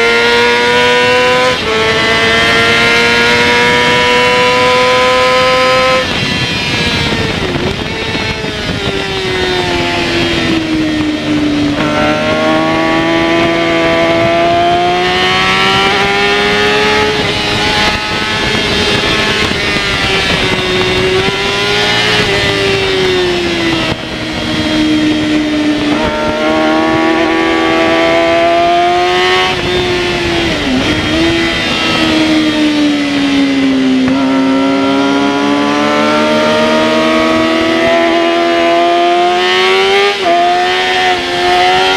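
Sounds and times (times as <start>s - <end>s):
motorcycle engine revving: 0.0s - 41.9s
wind rush: 0.0s - 41.9s.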